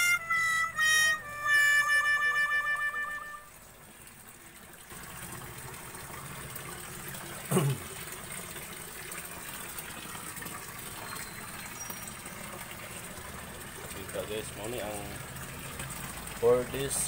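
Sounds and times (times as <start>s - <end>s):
water running into tank: 0.0s - 17.0s.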